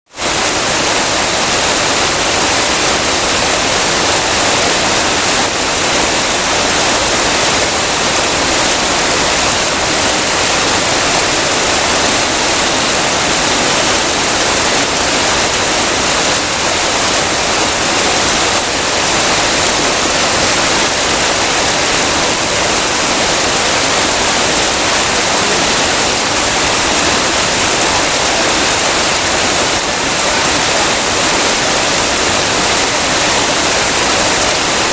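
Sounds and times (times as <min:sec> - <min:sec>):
heavy rain hissing: 0:00.1 - 0:34.9.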